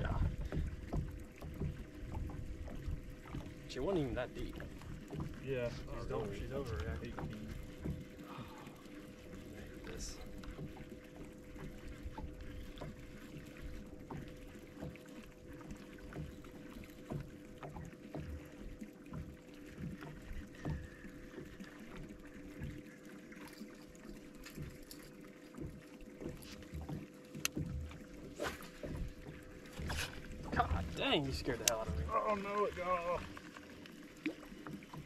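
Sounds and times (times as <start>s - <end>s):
waves lapping against boat hull: 0.0s - 35.0s
faint steady hum: 5.6s - 34.8s.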